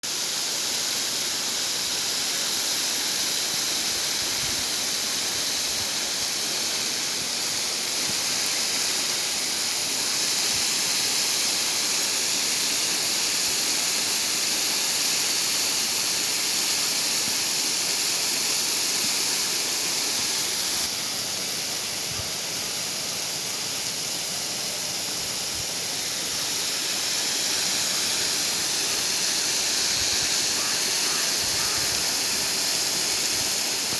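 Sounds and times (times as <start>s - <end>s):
small waterfall rushing: 0.0s - 33.9s.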